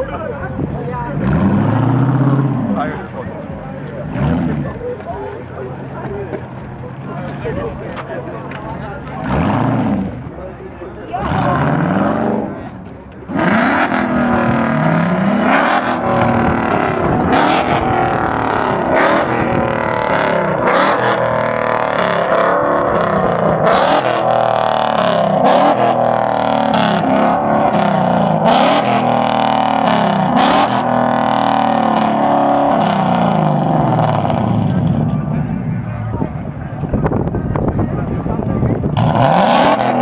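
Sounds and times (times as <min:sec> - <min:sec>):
car engine revving: 0:00.0 - 0:07.5, 0:08.2 - 0:40.0.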